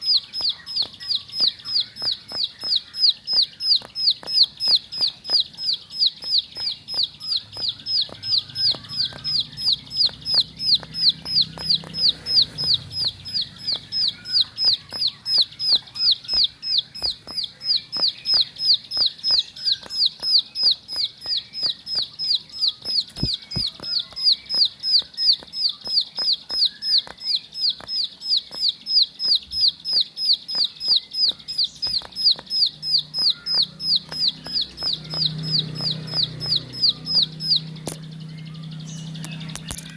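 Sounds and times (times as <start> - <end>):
bird calling rapid high notes: 0.0 - 39.9
faint bird chirps: 0.0 - 39.9.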